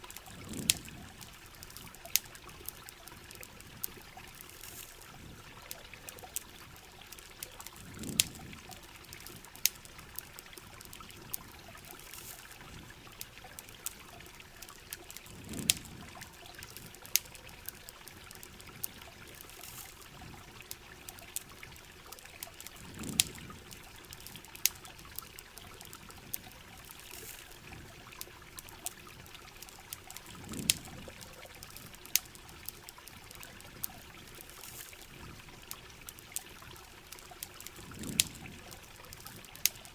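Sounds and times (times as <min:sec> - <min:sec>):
campfire crackling and popping: 0:00.0 - 0:39.9
running water: 0:00.0 - 0:39.9
steady rain: 0:00.0 - 0:39.9.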